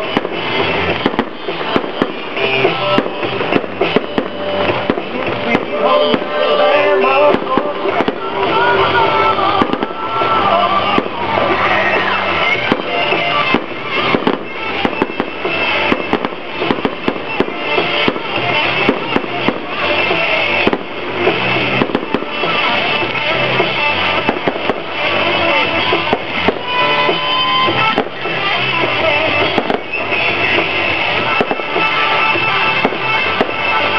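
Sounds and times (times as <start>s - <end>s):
fireworks bangs and crackles: 0.0s - 33.9s
music playing: 0.0s - 33.9s.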